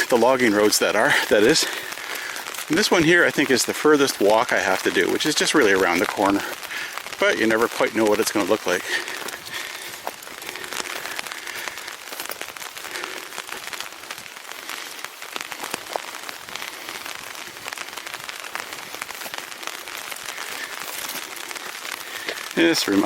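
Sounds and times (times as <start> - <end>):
rain tapping on an umbrella: 0.0 - 23.0.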